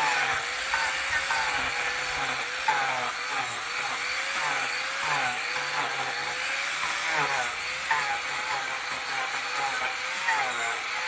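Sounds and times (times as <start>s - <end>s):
angle grinder motor whine: 0.0s - 11.0s.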